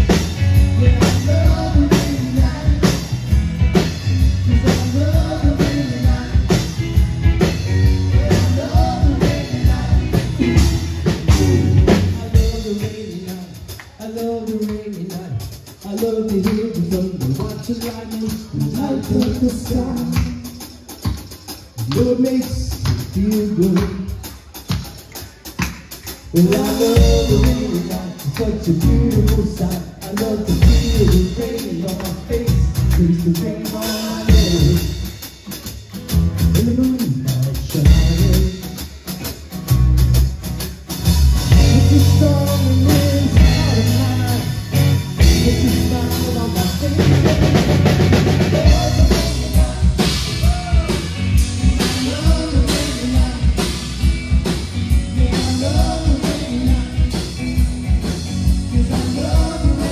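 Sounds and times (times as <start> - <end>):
drum kit beat: 0.0 - 59.9
rock band playing: 0.0 - 59.9.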